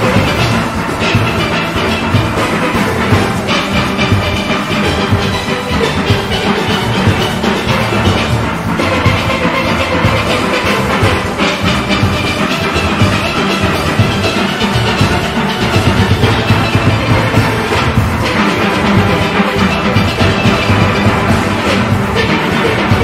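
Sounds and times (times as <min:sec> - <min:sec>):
drum and percussion beat: 0:00.0 - 0:23.0
steelpans playing melody: 0:00.0 - 0:23.0.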